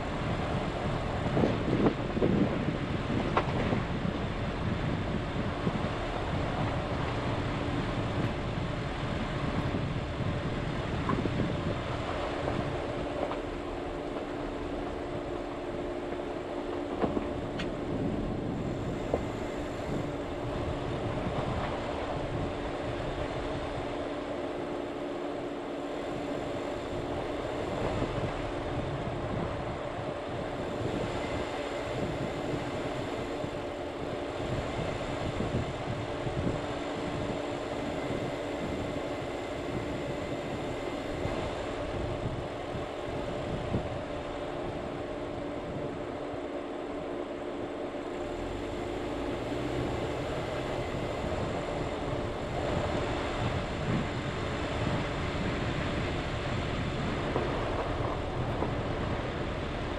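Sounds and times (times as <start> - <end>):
tyres rumbling on dirt road: 0.0 - 59.9
vehicle drivetrain hum: 0.0 - 59.9.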